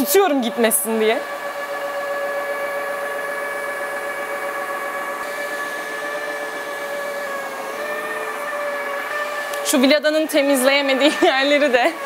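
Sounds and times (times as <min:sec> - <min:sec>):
floor cleaner motor whining: 0:00.0 - 0:12.0.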